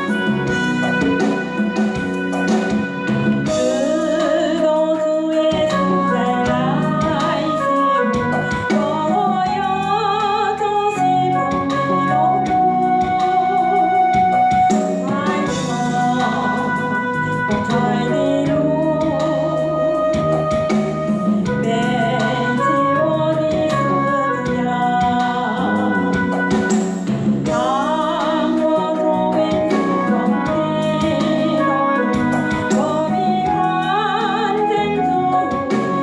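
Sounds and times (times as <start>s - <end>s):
drum kit: 0.0s - 36.0s
keyboard chords: 0.0s - 36.0s
person singing with vibrato: 0.0s - 36.0s.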